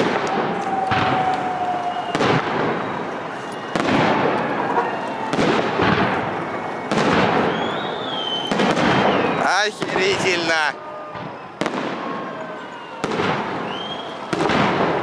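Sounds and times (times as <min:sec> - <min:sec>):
fireworks bangs echoing: 0:00.0 - 0:15.0.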